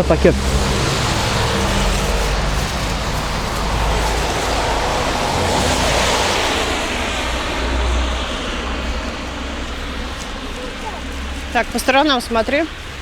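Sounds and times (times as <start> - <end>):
car passing: 0.0 - 13.0
wind rumble on microphone: 0.0 - 13.0.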